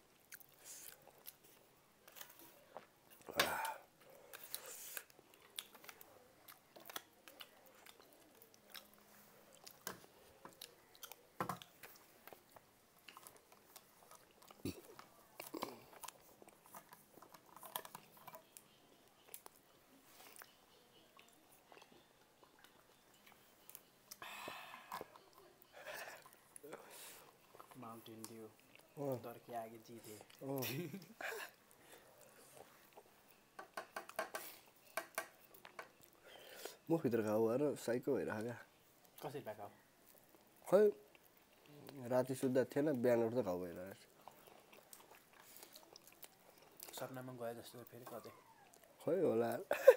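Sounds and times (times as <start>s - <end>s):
chewing crunchy fried food: 0.0s - 37.4s, 38.3s - 49.9s.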